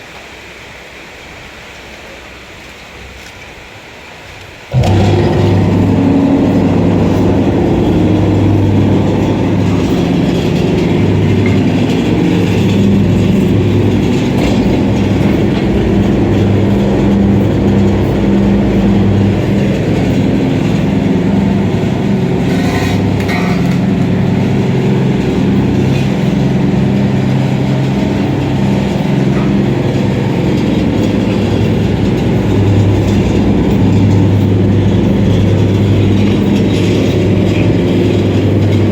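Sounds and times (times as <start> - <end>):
electric motor hum: 4.7 - 38.9
machine rattling clatter: 4.7 - 38.9.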